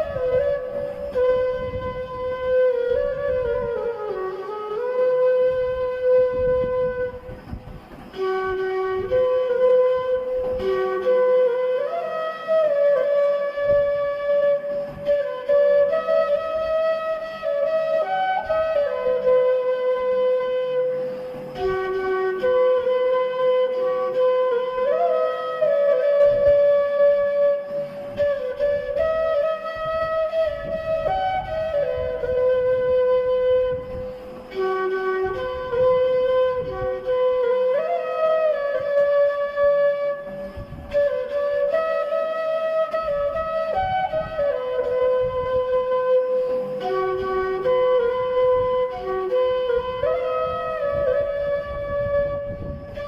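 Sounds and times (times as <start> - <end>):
slow flute melody: 0.0 - 53.0.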